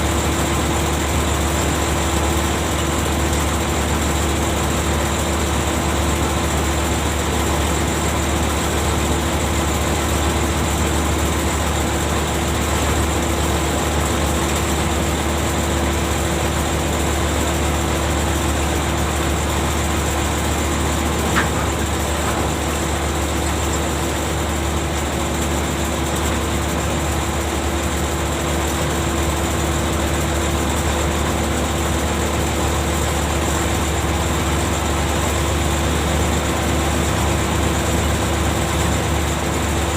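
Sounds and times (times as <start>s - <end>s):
heavy engine drone: 0.0s - 39.9s.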